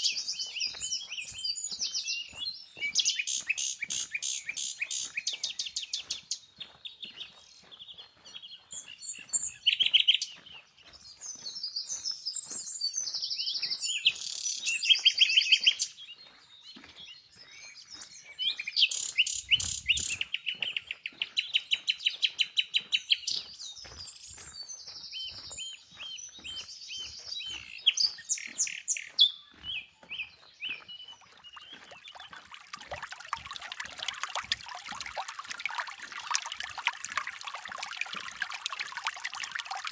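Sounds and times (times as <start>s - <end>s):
flowing creek trickling: 0.0s - 16.4s, 17.3s - 25.8s, 30.3s - 39.9s
songbirds singing: 0.0s - 39.9s.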